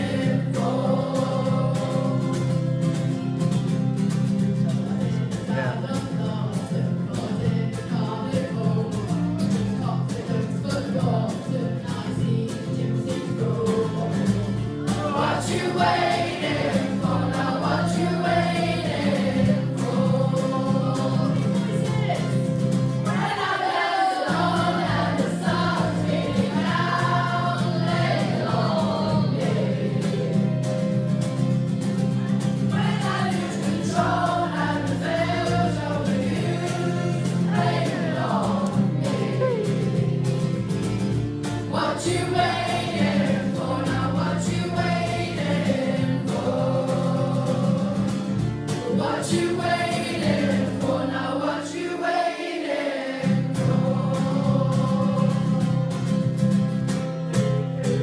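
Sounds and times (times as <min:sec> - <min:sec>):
young voices singing in unison: 0:00.0 - 0:03.2, 0:05.3 - 0:31.1, 0:32.0 - 0:56.4
acoustic guitar: 0:00.0 - 0:58.0.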